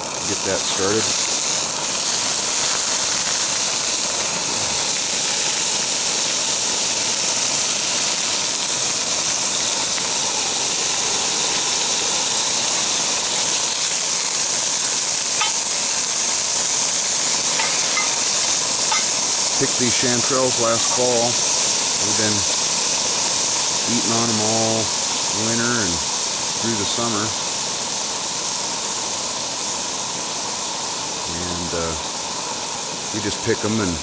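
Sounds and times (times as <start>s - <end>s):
food sizzling in skillet: 0.0s - 34.0s.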